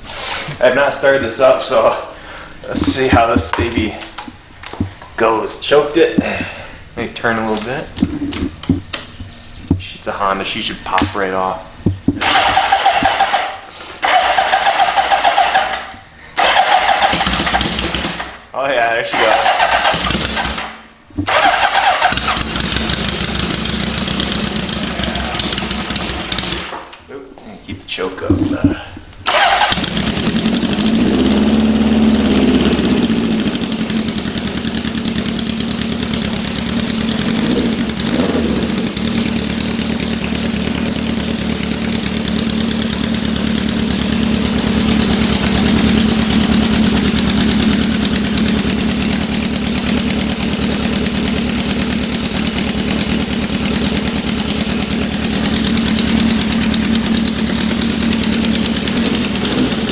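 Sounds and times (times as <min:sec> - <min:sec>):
motorcycle engine revving and idling: 0:02.7 - 0:04.0, 0:07.5 - 0:18.5, 0:19.1 - 0:26.8, 0:28.4 - 0:59.9.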